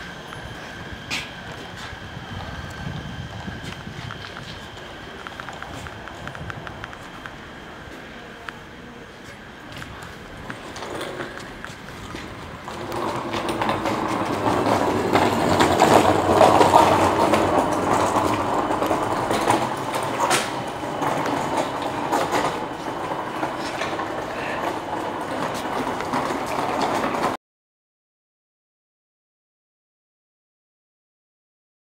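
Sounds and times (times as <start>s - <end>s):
train rumbling on rails: 0.0s - 27.4s
wheels clicking over rail joints: 0.0s - 27.4s.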